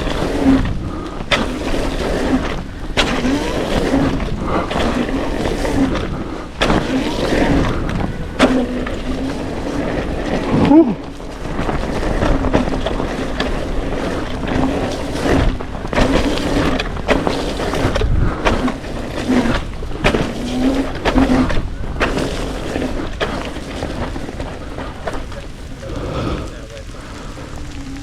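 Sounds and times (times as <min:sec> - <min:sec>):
knocks and jolts from bumps: 0:00.0 - 0:28.0
steady low hum: 0:00.0 - 0:28.0
tyre rumble: 0:00.0 - 0:28.0
wind buffeting microphone: 0:00.0 - 0:28.0.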